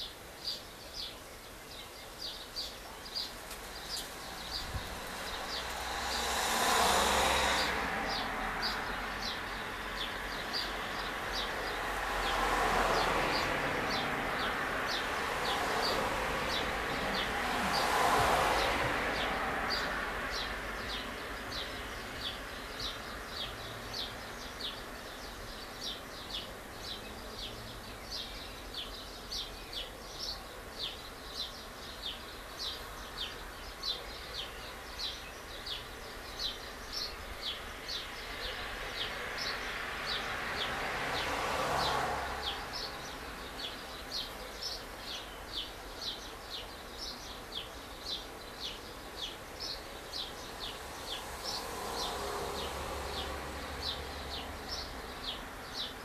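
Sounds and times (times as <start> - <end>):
distant street traffic: 0.0 - 56.0
vehicle passing: 3.1 - 28.2, 35.0 - 47.6, 48.6 - 56.0.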